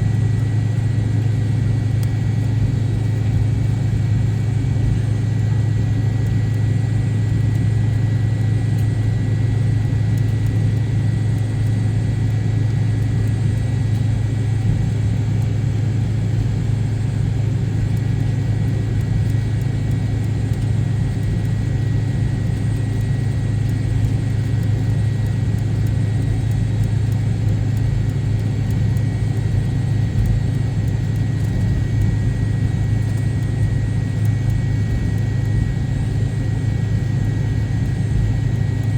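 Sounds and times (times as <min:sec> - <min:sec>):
faint steady whine: 0:00.0 - 0:38.9
jet engines deep rumble: 0:00.0 - 0:38.9.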